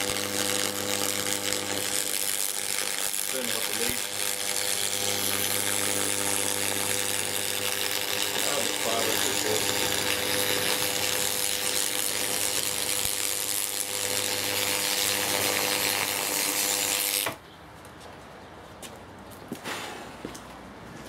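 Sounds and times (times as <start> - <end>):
electric arc buzzing hiss: 0.0 - 17.4.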